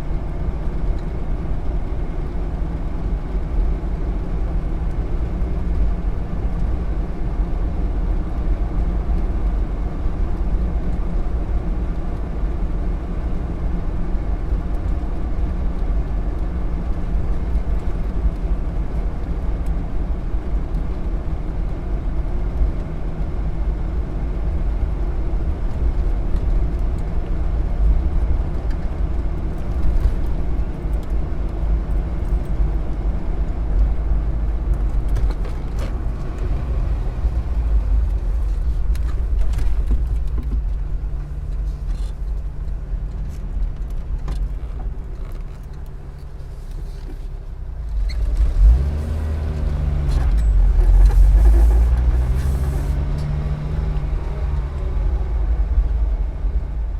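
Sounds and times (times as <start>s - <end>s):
vehicle engine rumble: 0.0s - 56.9s.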